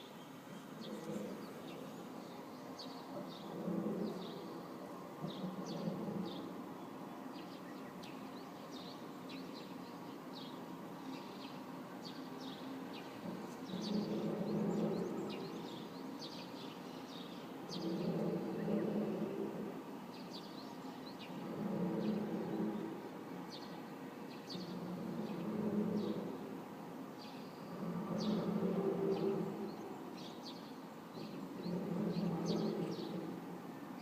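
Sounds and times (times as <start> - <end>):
low humming drone: 0.0 - 34.0.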